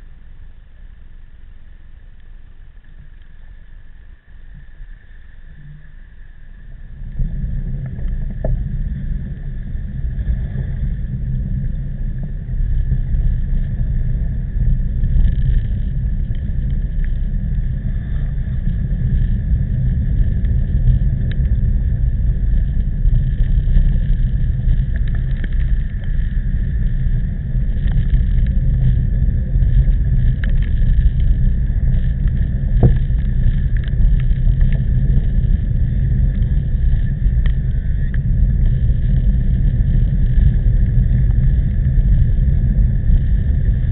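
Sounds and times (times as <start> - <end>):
strong wind buffeting microphone: 6.4 - 43.9.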